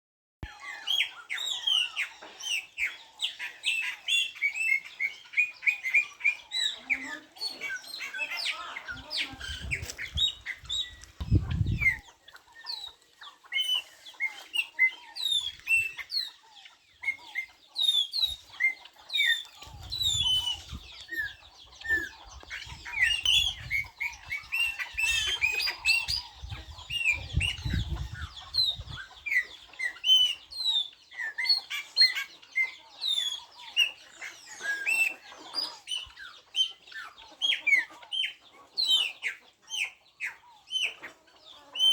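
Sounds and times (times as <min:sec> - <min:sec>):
birds chirping in chorus: 0:00.4 - 0:41.9.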